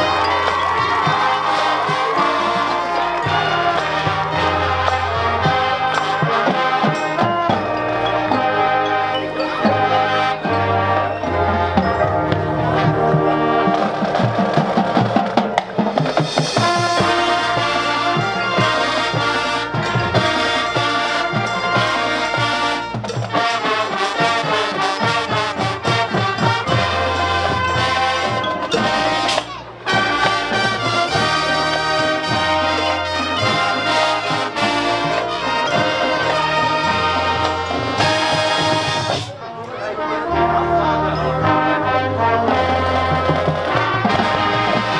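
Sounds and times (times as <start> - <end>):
drumline: 0.0 - 44.9
marching band brass section: 0.0 - 44.9.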